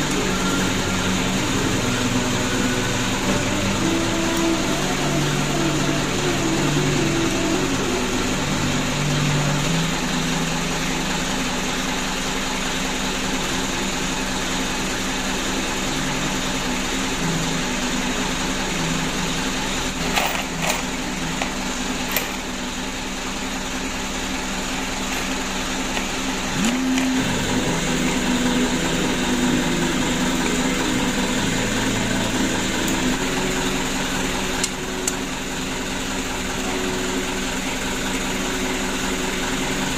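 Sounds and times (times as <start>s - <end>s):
steady mechanical drone: 0.0s - 39.9s.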